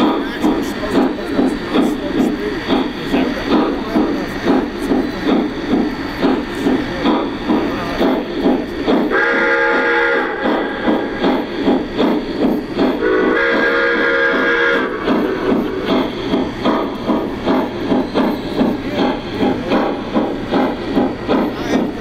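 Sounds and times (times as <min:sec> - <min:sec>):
steam chuffing: 0:00.0 - 0:22.0.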